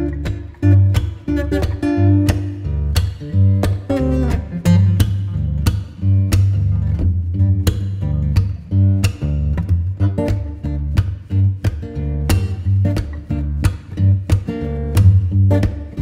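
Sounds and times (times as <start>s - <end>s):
guitar instrumental with bass and beats: 0.0s - 16.0s.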